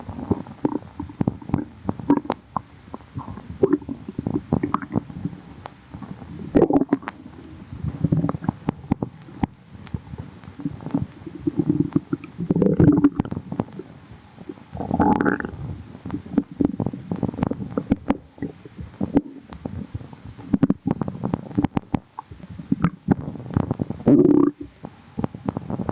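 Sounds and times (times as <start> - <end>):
stomach growling and gurgling: 0.0 - 25.9.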